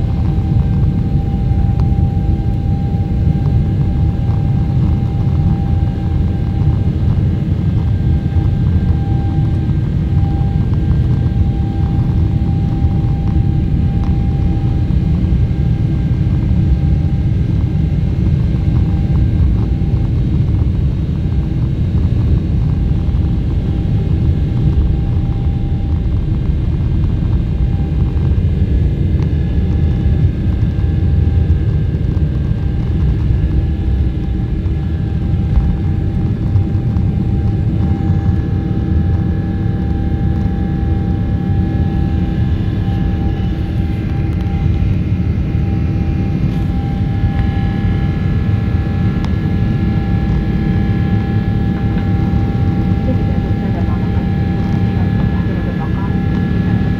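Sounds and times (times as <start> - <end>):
jet engine rumble and whine: 0.0 - 56.9.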